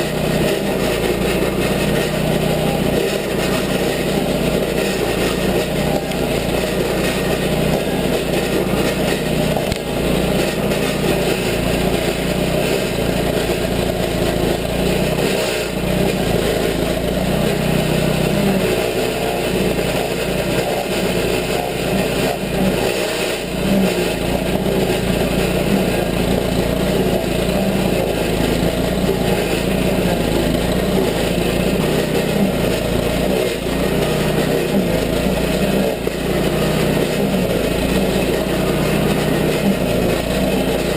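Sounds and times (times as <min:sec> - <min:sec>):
cutter wheel grinding stump: 0:00.0 - 0:40.9
stump grinder engine running: 0:00.0 - 0:40.9.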